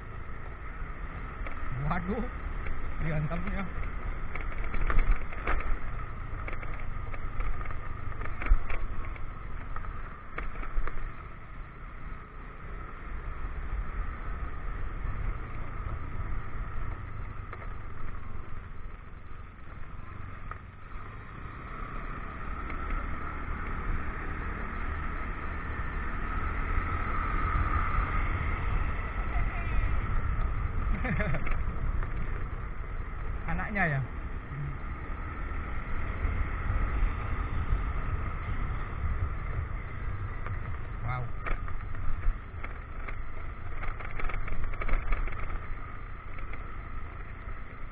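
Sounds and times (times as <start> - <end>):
motorcycle engine running: 0.0 - 47.9
wind and road noise: 0.0 - 47.9
sharp knocks over potholes: 0.1 - 12.6, 13.5 - 47.9.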